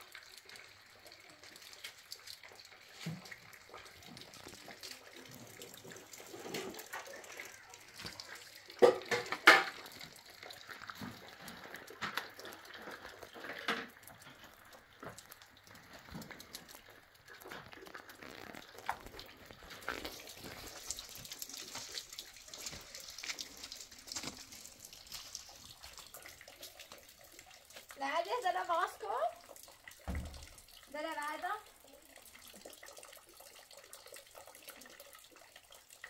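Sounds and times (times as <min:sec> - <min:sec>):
water splashing and trickling: 0:00.0 - 0:36.0.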